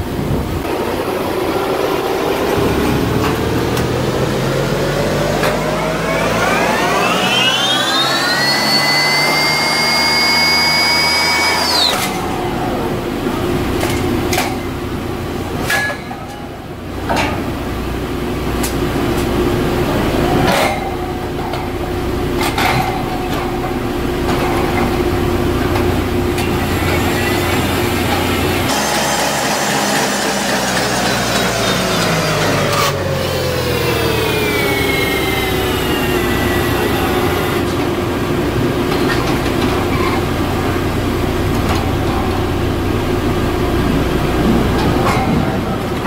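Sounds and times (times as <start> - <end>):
mechanical whine: 0.0 - 17.0, 17.8 - 46.0
machinery hum: 0.0 - 46.0.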